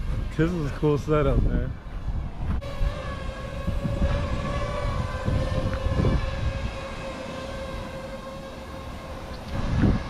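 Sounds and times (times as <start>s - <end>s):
drone propellers humming: 0.0s - 10.0s
wind rumbling on microphone: 0.0s - 10.0s.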